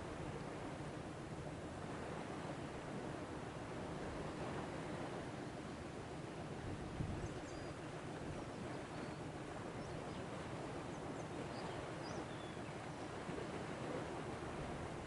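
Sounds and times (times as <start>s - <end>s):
sea and wind rushing: 0.0s - 15.0s.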